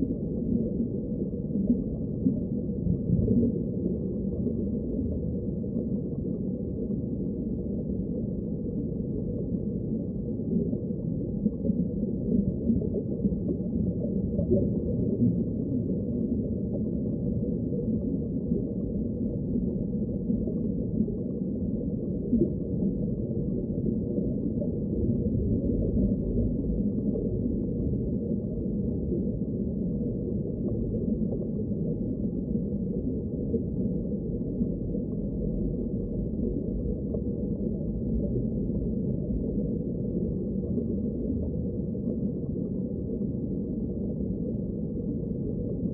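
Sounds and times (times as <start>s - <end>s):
muffled underwater rumble: 0.0s - 45.9s.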